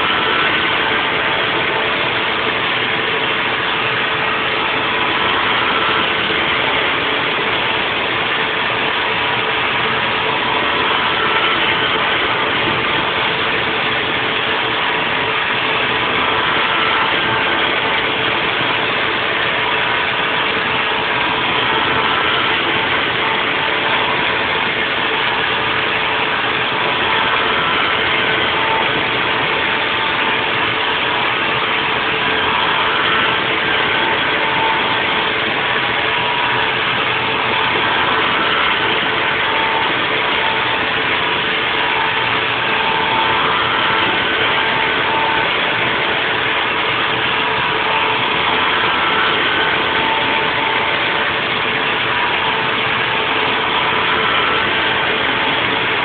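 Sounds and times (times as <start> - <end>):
high machine tones: 0.0 - 56.0
milling machine running: 0.0 - 56.0.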